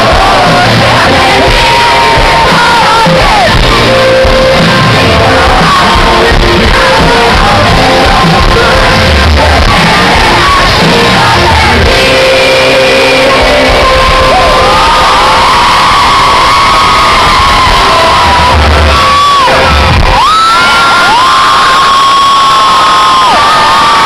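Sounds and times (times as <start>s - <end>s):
live band playing: 0.0s - 22.6s
crowd shouting and singing: 0.0s - 24.0s.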